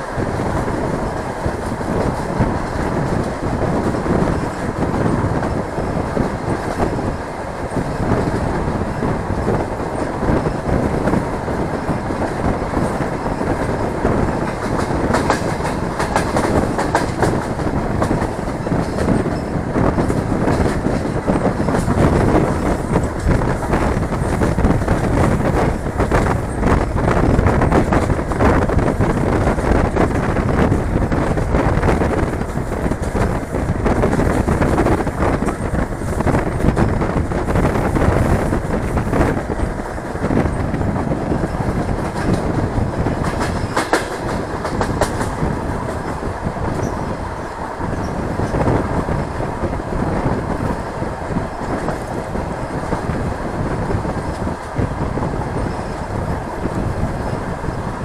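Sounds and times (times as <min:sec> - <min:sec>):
rushing air: 0:00.0 - 0:58.0
train wheels rumbling on rails: 0:00.0 - 0:58.0.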